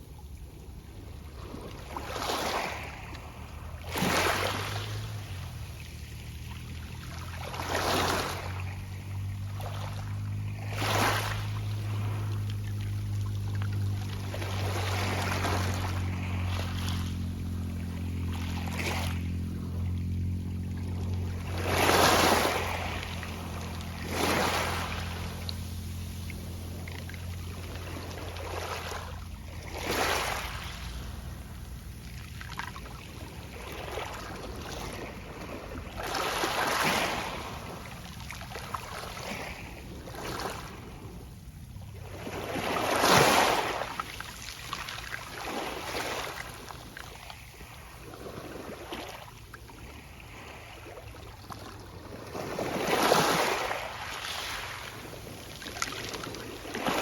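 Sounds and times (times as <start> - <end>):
waves breaking on pebble beach: 1.2 - 41.3, 41.9 - 57.0.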